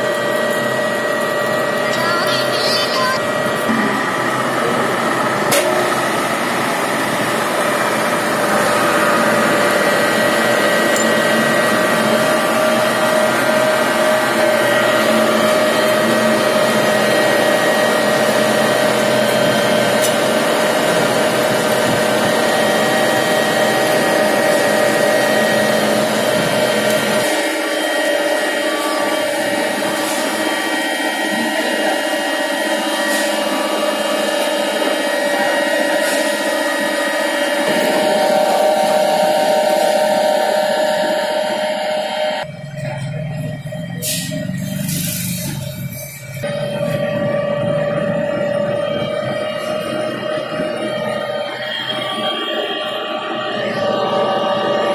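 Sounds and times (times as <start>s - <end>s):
milling machine motor whine: 0.0s - 54.9s.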